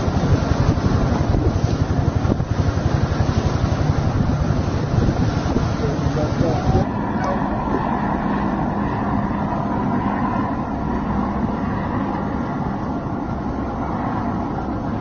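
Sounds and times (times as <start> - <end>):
boat engine running: 0.0 - 15.0
water: 0.0 - 15.0
wind: 0.0 - 15.0.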